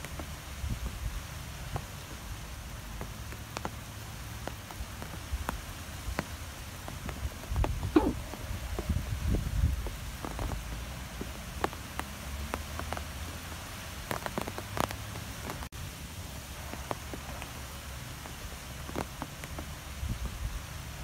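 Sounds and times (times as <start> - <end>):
low steady background noise: 0.0 - 21.0
sharp raindrop ticks: 0.0 - 21.0
steady rain: 0.0 - 21.0.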